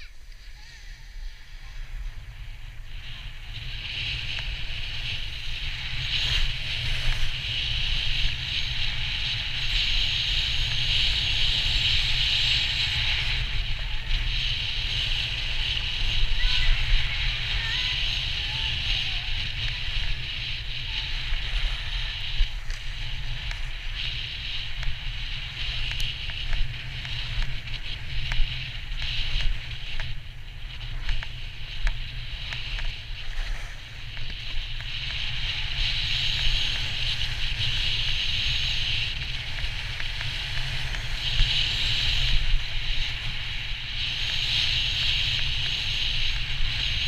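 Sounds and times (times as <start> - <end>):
skis sliding on snow: 0.0 - 47.0
wind rumbling on microphone: 0.0 - 47.0.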